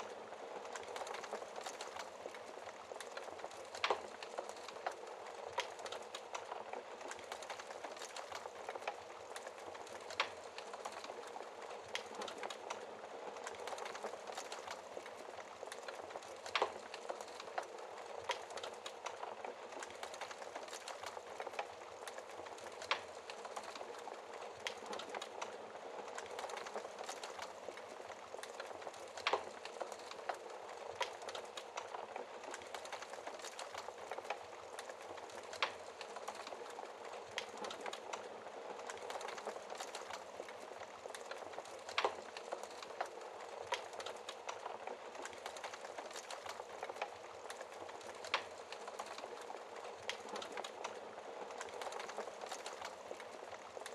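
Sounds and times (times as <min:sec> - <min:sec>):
campfire crackling: 0:00.0 - 0:53.9.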